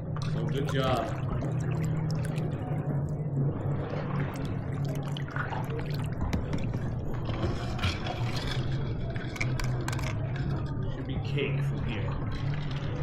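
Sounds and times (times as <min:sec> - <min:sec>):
steady low hum: 0:00.0 - 0:13.0
water lapping and dripping: 0:00.0 - 0:13.0.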